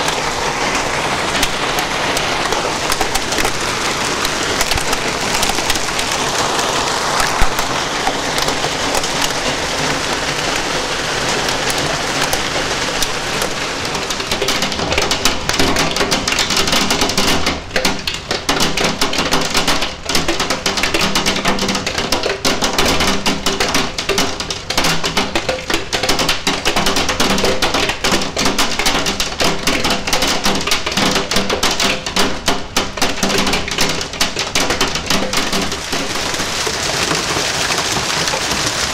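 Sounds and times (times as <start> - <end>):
hailstones clicking on window: 0.0 - 38.9
heavy rain with hail: 0.0 - 38.9.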